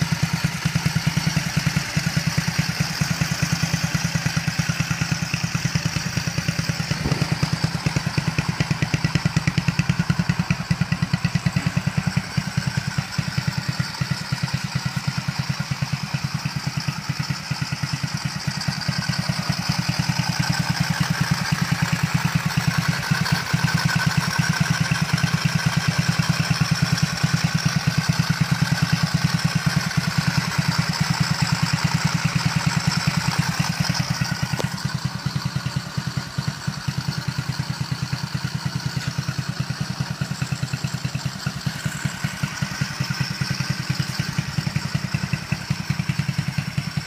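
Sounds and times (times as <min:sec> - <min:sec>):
small engine idling: 0:00.0 - 0:47.0.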